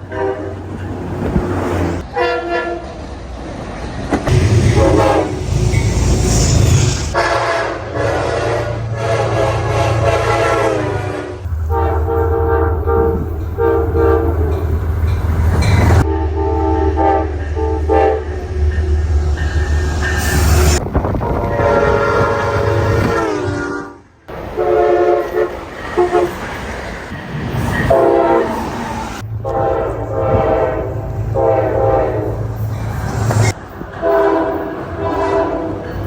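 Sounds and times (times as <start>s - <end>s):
train horn blasts: 0.0s - 0.9s, 2.0s - 2.9s, 4.3s - 26.4s, 27.9s - 32.7s, 33.4s - 36.0s
train rumbling: 0.0s - 36.0s.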